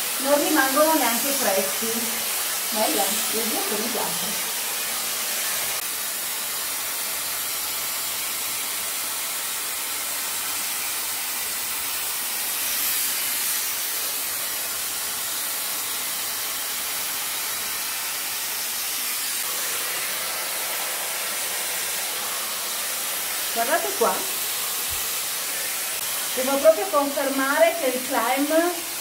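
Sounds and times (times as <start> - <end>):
hair styler motor blowing air: 0.0 - 29.0.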